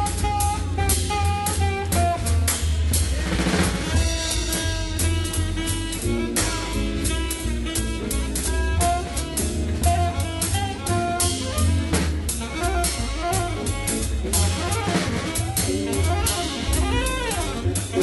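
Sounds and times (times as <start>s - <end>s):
jazz music with drum kit: 0.0s - 18.0s.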